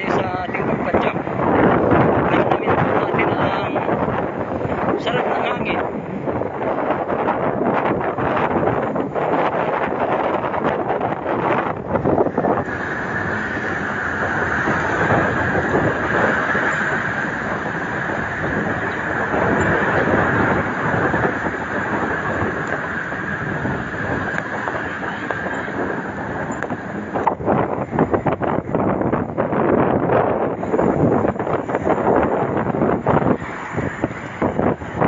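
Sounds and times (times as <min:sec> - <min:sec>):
rumbling rolling noise with hiss: 0:00.0 - 0:35.0.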